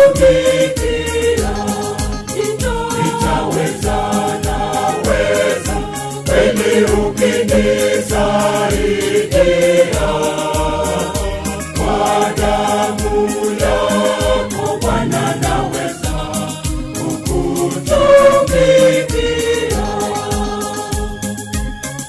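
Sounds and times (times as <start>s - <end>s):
choir singing a hymn: 0.0s - 21.6s
steady low drum beat: 0.0s - 21.8s.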